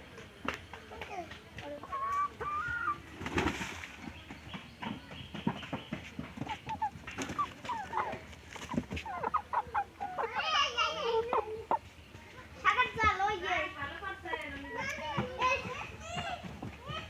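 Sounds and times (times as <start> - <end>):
chickens clucking: 0.1 - 17.0.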